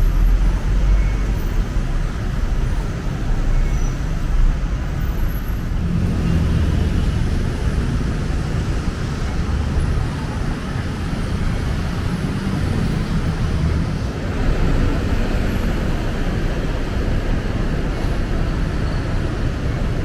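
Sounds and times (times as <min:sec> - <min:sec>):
cars on busy road: 0:00.0 - 0:20.0.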